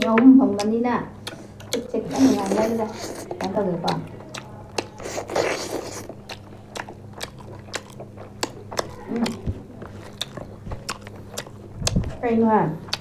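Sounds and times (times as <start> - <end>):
chewing and crunching food: 0.0 - 13.0
steady low hum: 0.0 - 13.0.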